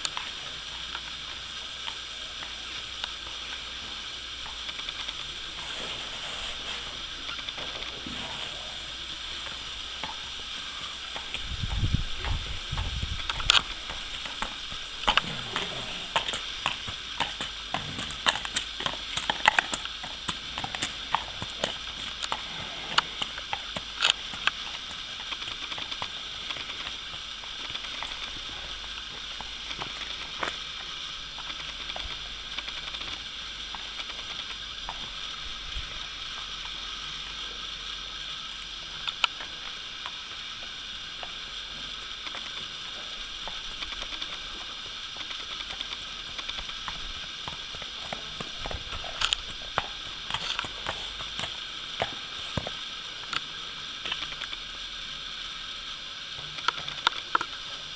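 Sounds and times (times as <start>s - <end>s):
horse hooves on tarmac: 0.0s - 54.7s
steady hiss: 0.0s - 57.9s.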